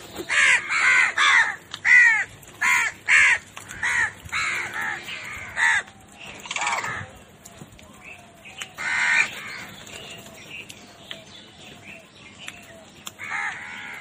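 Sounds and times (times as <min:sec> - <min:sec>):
bird harsh calls: 0:00.0 - 0:14.0.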